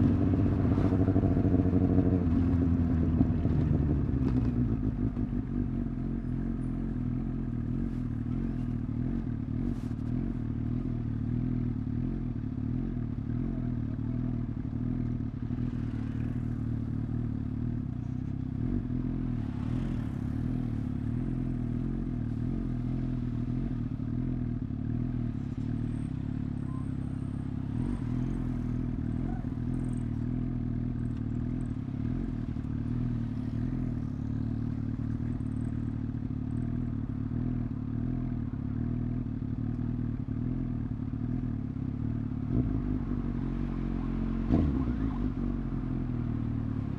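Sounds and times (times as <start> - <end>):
motorcycle engine cruising: 0.0 - 46.9.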